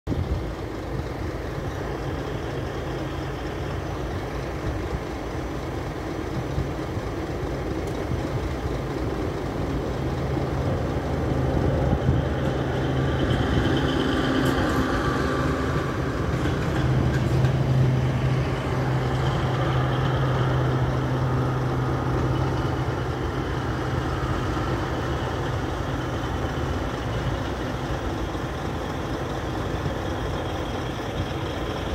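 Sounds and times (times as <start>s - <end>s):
diesel locomotive engine drone: 0.0s - 31.9s.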